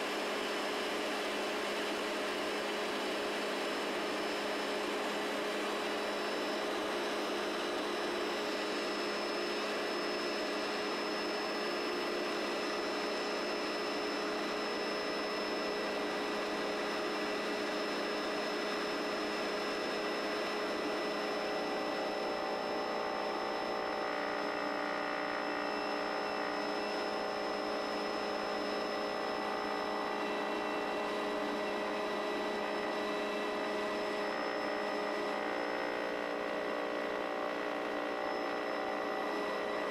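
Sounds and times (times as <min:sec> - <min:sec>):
helicopter engine and rotor noise: 0:00.0 - 0:39.9
high turbine whine: 0:00.0 - 0:39.9.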